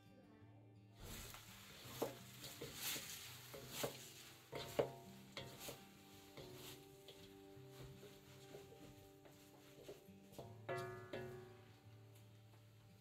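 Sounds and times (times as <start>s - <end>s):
wooden spatula scraping a pan: 1.0s - 11.8s
noodles sizzling in a wok: 1.0s - 13.0s.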